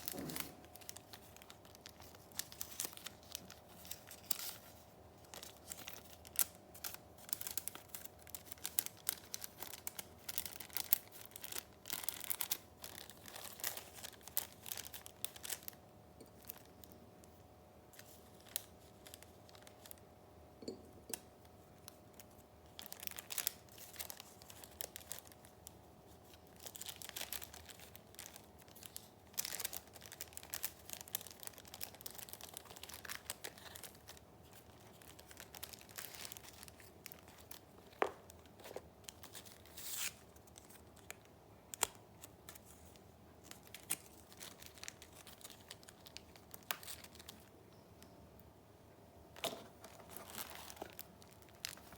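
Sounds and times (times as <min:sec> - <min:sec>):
paper rustling and crinkling: 0:00.0 - 0:17.0, 0:17.9 - 0:20.0, 0:21.5 - 0:47.5, 0:49.4 - 0:51.9.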